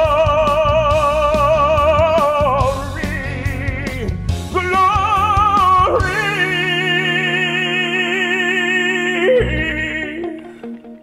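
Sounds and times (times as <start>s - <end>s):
man singing held notes: 0.0s - 10.6s
instrumental accompaniment: 0.0s - 11.0s.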